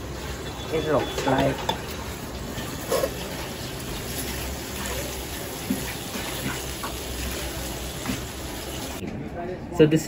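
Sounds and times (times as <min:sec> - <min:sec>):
food sizzling on a gas stove: 0:00.0 - 0:09.0.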